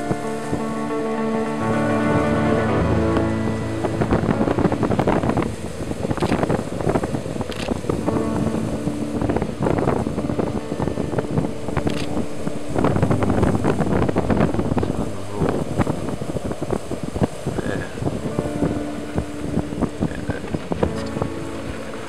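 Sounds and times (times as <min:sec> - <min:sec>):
faint steady tones: 0:00.0 - 0:22.0
wind buffeting microphone: 0:00.0 - 0:22.0.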